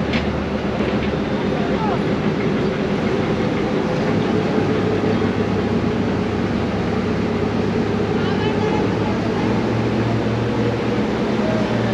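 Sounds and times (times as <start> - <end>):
ferry engine droning: 0.0 - 11.9.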